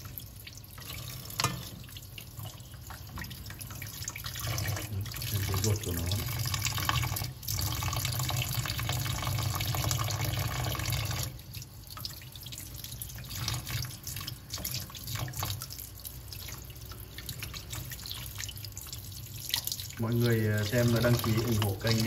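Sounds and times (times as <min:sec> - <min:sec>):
tap water running into a sink: 0:00.0 - 0:22.0
water splashing and dripping: 0:00.0 - 0:22.0.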